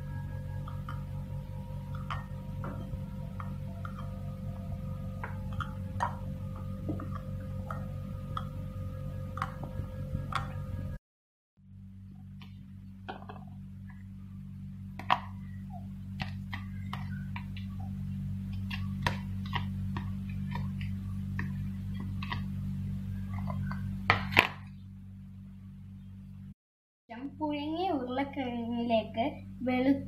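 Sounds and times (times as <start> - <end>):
steady low hum: 0.0 - 11.0, 11.6 - 30.0.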